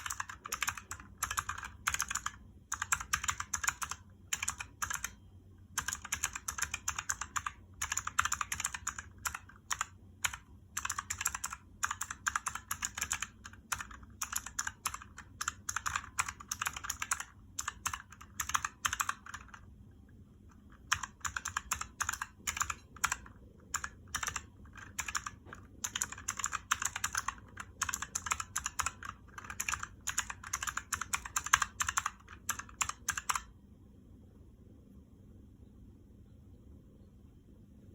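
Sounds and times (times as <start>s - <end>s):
clicky keyboard typing: 0.0s - 19.7s, 20.4s - 33.6s.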